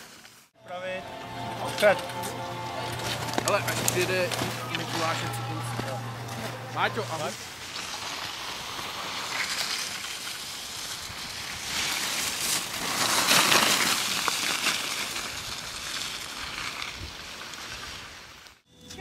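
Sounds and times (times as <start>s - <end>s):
skis carving on snow: 0.0s - 0.5s, 1.7s - 18.6s.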